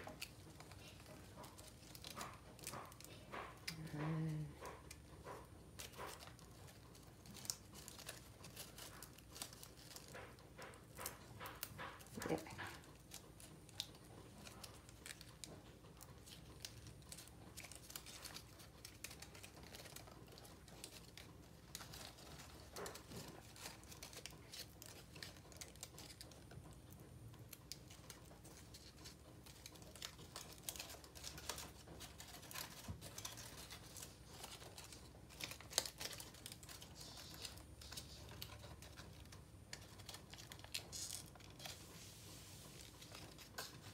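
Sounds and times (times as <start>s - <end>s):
paper rustling and crinkling: 0.0s - 43.9s.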